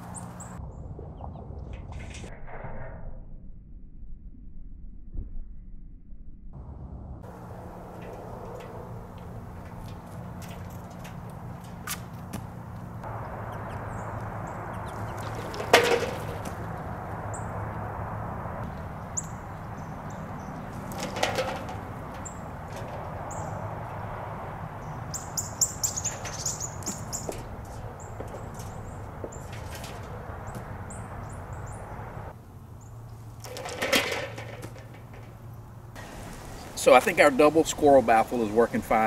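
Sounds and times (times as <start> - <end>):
birds chirping: 0.0 - 1.4, 7.3 - 33.4, 34.7 - 39.0.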